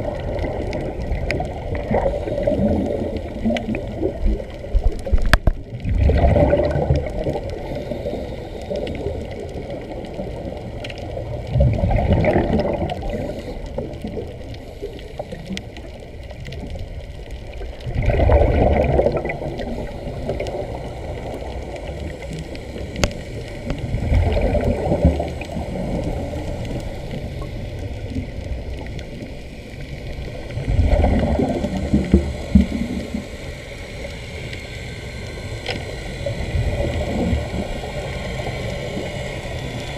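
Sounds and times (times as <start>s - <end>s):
muffled underwater rumble: 0.0s - 39.9s
underwater air bubbles rushing: 0.0s - 39.9s.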